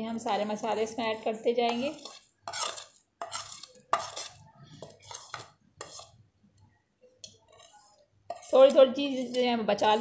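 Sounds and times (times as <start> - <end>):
metal spoon scraping a plate: 0.6 - 6.2, 7.2 - 10.0.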